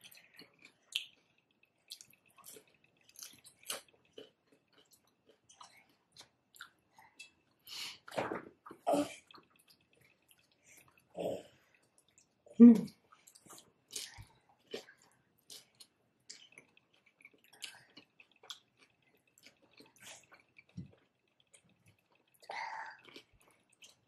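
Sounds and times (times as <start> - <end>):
crunchy chewing of chips: 0.0 - 12.4, 13.0 - 24.0.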